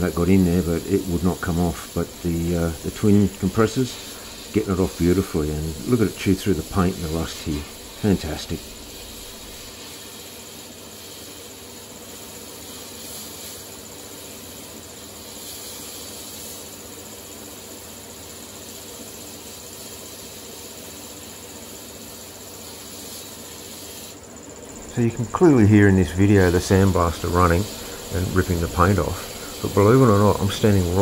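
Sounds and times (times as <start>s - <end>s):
sandblasting gun hissing: 0.0s - 31.0s.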